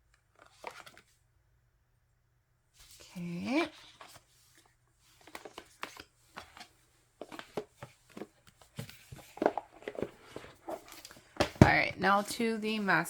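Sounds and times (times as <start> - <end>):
card and paper rustling: 0.1 - 1.2, 2.8 - 13.0.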